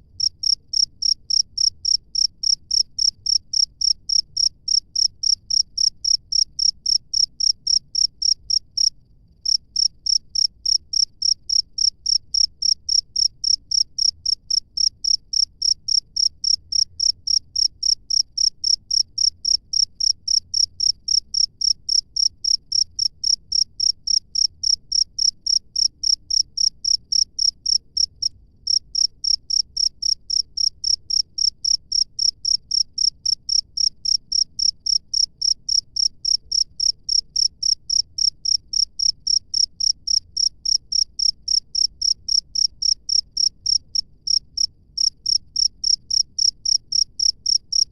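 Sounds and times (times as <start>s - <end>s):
cricket chirping: 0.0s - 47.9s.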